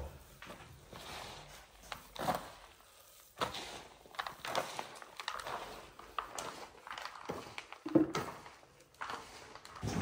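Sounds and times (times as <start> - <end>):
hands rubbing crumbly mixture: 0.0 - 10.0.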